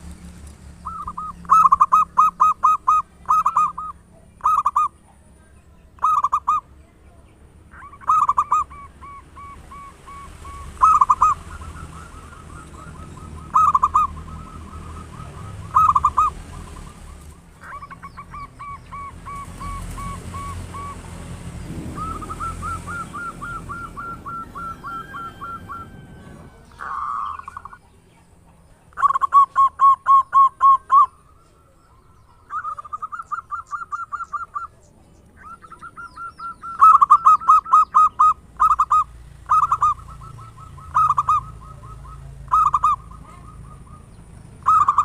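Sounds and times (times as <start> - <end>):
doves cooing: 0.0 - 45.0.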